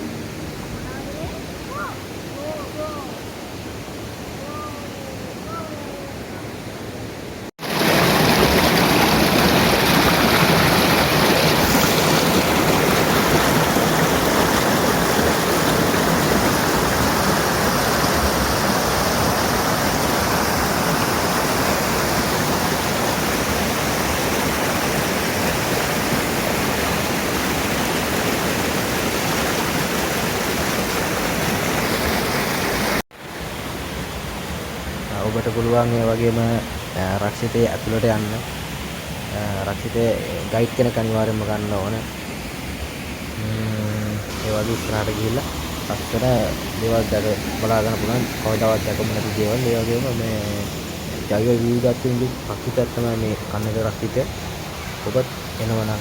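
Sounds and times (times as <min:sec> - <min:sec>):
fast-flowing water rushing: 0:00.0 - 0:56.0.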